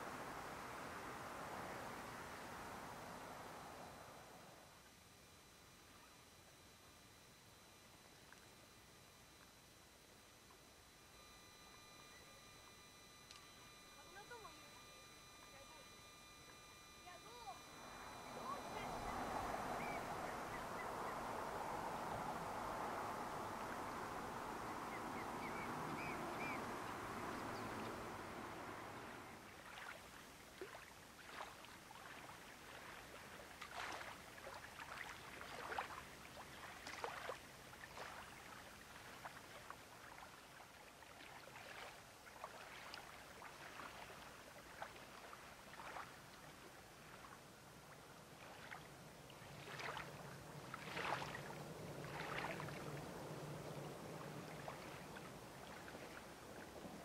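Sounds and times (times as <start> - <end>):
small waves lapping: 8.1 - 57.0.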